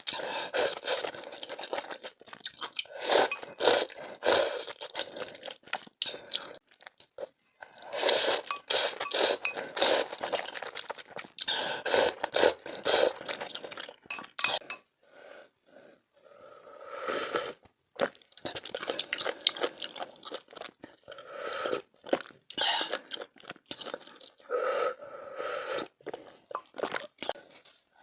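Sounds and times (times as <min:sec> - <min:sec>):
person chewing crunchy food: 0:00.0 - 0:14.8, 0:18.0 - 0:21.2, 0:21.8 - 0:24.5, 0:25.8 - 0:28.0.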